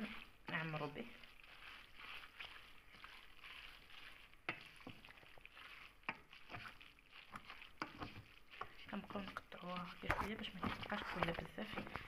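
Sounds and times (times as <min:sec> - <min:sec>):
spoon stirring wet mixture: 0:00.0 - 0:12.0.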